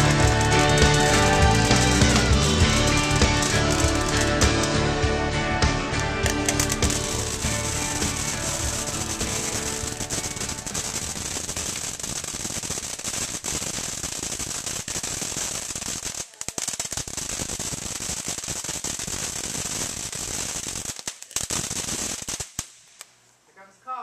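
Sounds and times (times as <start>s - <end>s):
fireworks crackling and banging: 0.0s - 23.3s.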